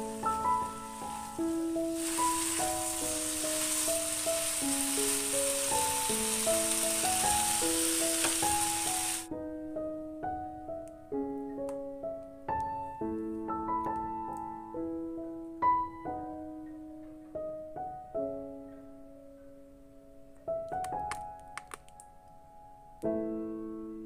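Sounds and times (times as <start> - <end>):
slow piano melody: 0.0 - 24.0.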